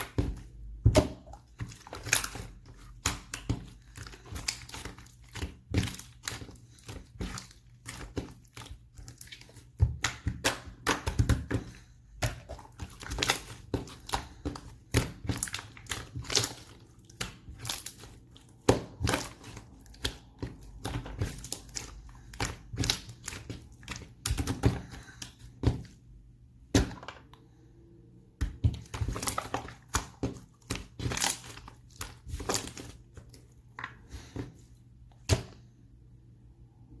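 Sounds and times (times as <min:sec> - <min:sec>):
slime squishing and popping: 0:00.0 - 0:25.9, 0:28.4 - 0:33.4.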